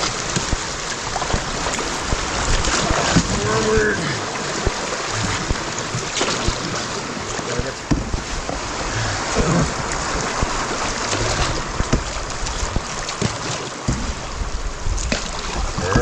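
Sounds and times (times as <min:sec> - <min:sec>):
canoe knocks and splashes: 0:00.0 - 0:16.0
rain falling: 0:00.0 - 0:16.0
river rapid rushing: 0:00.0 - 0:16.0.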